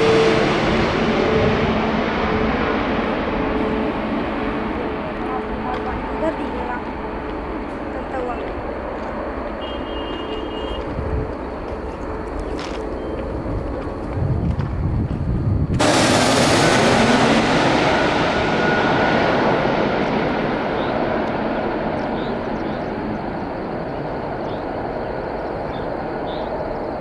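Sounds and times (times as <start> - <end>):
airliner jet engine passing: 0.0 - 27.0.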